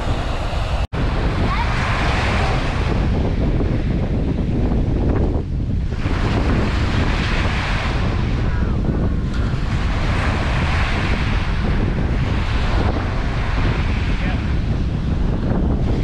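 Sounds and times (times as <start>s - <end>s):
wind buffeting microphone: 0.0s - 16.0s
waves washing up a beach: 1.0s - 16.0s.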